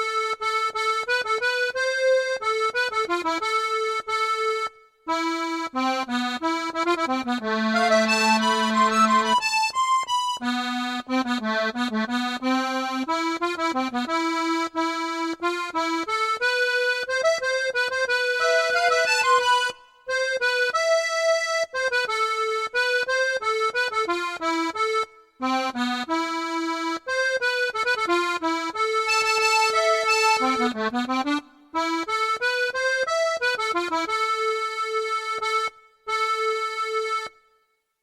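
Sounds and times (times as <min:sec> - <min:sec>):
accordion melody: 0:00.0 - 0:38.0.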